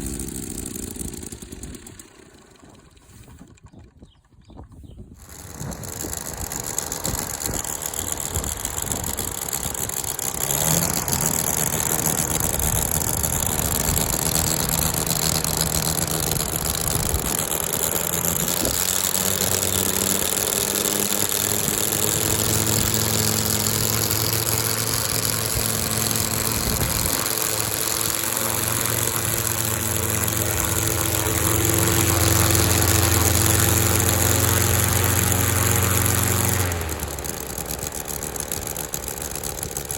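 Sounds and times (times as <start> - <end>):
model rotary engine running: 0.0 - 4.0, 5.2 - 39.9.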